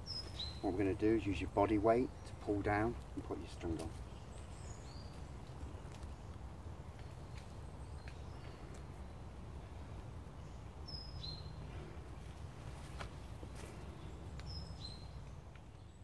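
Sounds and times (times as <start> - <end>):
low woodland rumble: 0.0 - 16.0.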